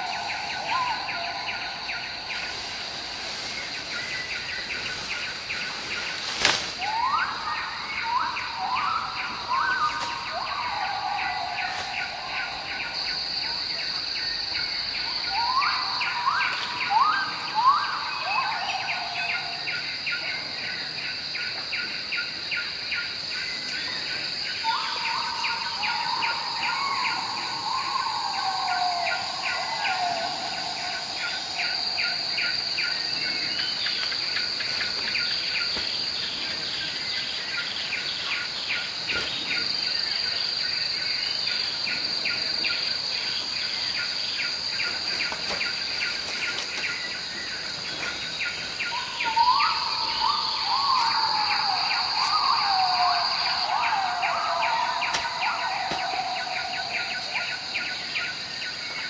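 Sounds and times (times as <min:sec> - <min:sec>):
insect call wavering in pitch: 0:00.0 - 0:59.0
insect chorus droning: 0:00.0 - 0:59.0.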